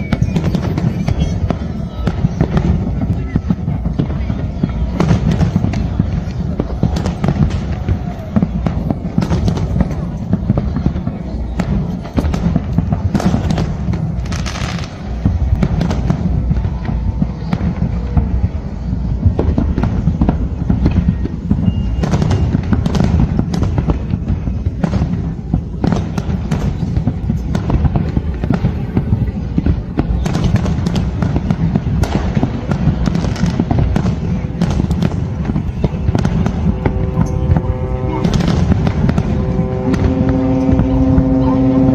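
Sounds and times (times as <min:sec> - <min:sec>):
firework bangs and crackling: 0:00.0 - 0:41.9
low booming rumble: 0:00.0 - 0:41.9.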